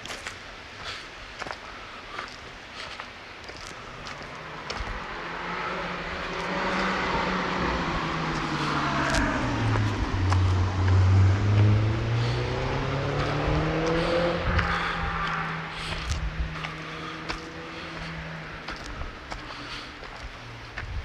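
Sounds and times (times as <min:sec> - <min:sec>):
vehicle engine approaching: 0:03.7 - 0:21.0.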